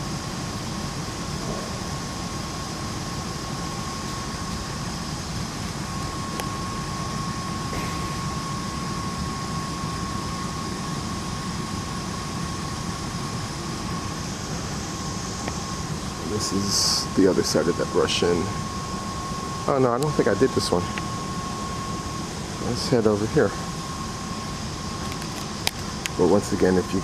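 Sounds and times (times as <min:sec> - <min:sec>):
hangar background hum: 0:00.0 - 0:27.0
thin high whine: 0:00.0 - 0:27.0.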